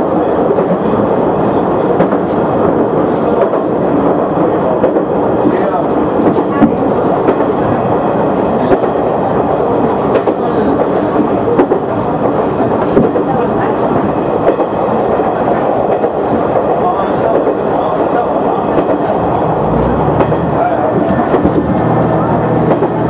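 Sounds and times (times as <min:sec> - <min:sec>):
railcar engine and wheels rumbling: 0:00.0 - 0:23.0.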